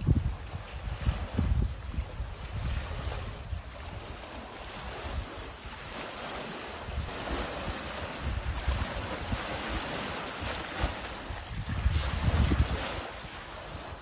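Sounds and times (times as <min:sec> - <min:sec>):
small waves washing ashore: 0:00.0 - 0:14.0
wind buffeting microphone: 0:00.0 - 0:14.0.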